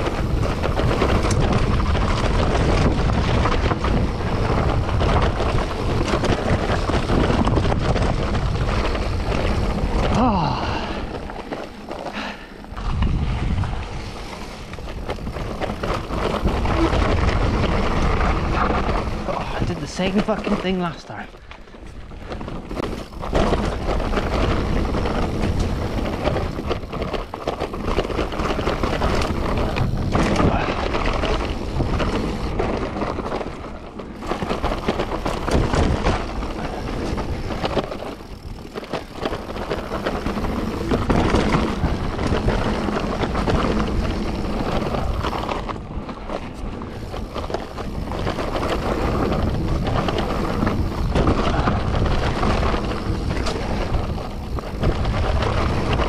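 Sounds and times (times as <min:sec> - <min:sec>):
bike knocking and rattling: 0:00.0 - 0:56.0
bike tyre noise on trail: 0:00.0 - 0:56.0.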